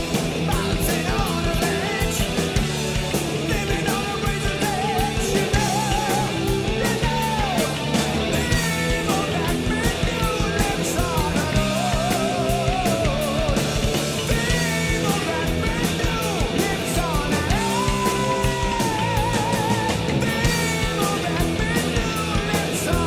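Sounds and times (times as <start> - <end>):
rock song with singing: 0.0 - 23.0.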